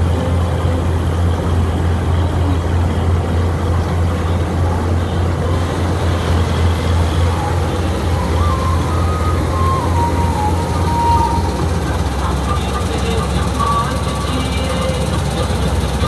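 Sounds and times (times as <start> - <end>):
combine harvester engine drone: 0.0 - 16.0
threshing machinery noise: 0.0 - 16.0.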